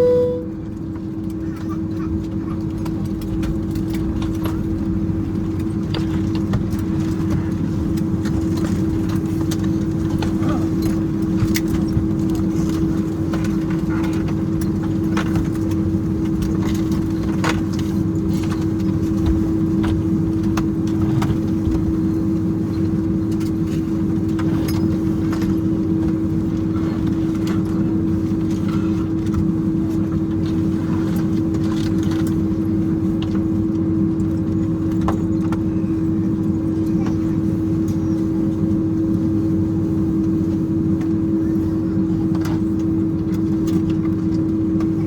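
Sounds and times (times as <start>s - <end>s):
airliner cabin hum: 0.0s - 45.0s
clicks and rattles in cabin: 0.6s - 39.4s, 40.1s - 45.0s.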